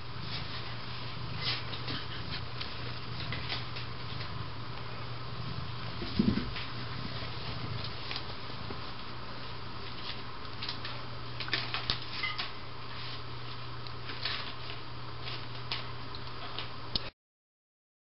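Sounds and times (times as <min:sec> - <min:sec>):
kittens rustling and scratching: 0:00.0 - 0:16.8
steady low hum: 0:00.0 - 0:17.1.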